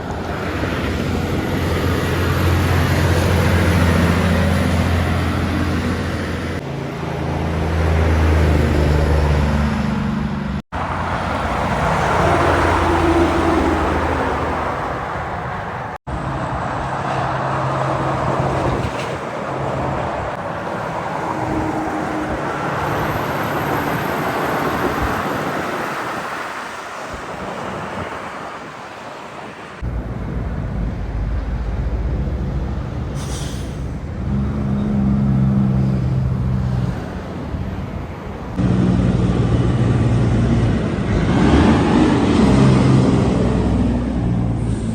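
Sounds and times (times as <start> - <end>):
trucks diesel engines driving by: 0.0 - 44.9
tyre and traffic noise: 0.0 - 44.9.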